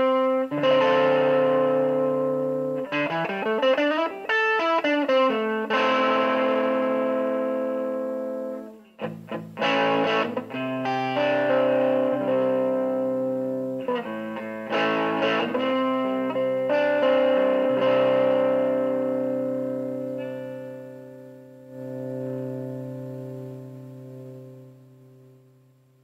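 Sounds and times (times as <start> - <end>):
overdriven electric guitar: 0.0 - 26.0.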